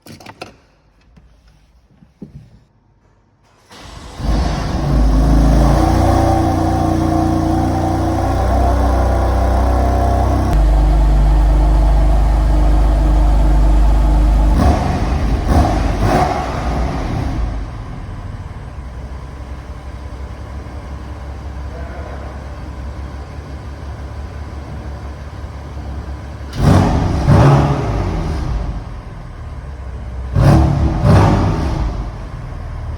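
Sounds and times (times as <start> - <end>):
car engine idling and revving: 3.5 - 32.9.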